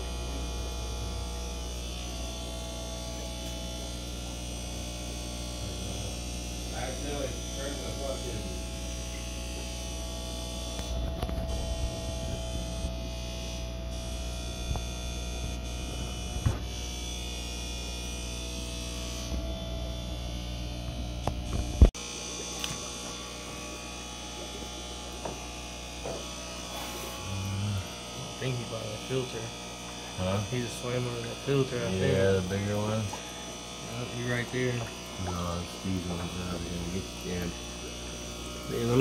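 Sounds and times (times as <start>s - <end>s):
aquarium pumps humming: 0.0s - 39.0s.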